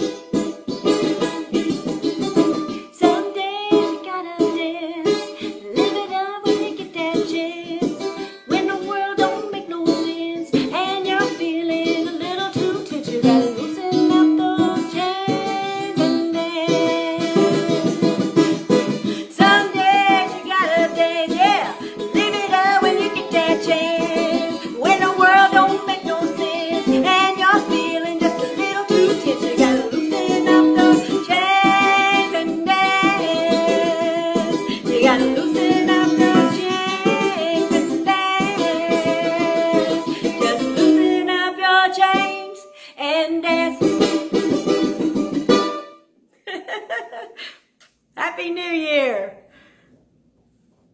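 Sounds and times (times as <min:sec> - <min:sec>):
ukulele strumming: 0:00.0 - 0:46.1
woman singing country song: 0:01.0 - 0:45.3.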